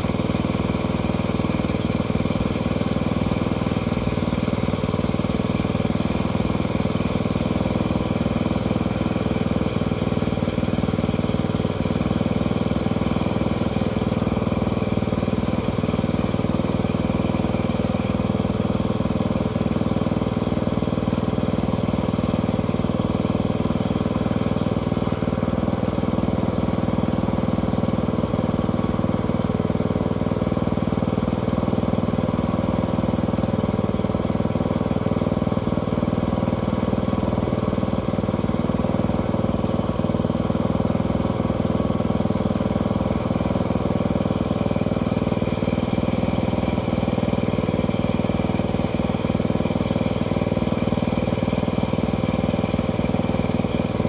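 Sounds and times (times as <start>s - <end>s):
small sawmill engine running: 0.0s - 54.0s.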